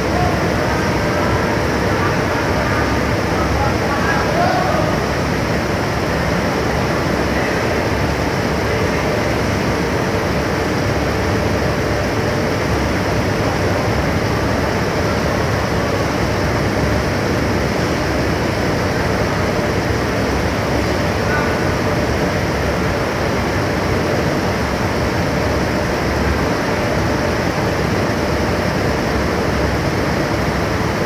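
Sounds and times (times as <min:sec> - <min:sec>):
heavy machinery drone: 0:00.0 - 0:31.0.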